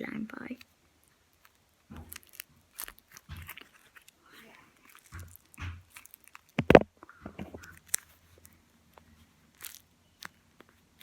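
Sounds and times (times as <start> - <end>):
paper squishy crinkling and crunching: 0.5 - 11.0
small crackles and clicks: 0.5 - 11.0.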